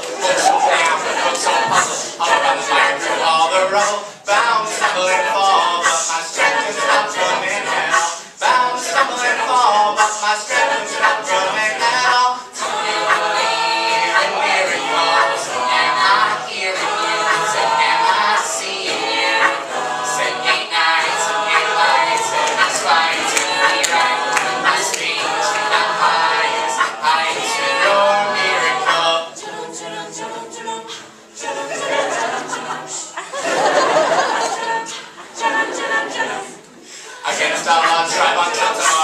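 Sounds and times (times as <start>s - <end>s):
a cappella group singing in harmony: 0.0s - 39.0s.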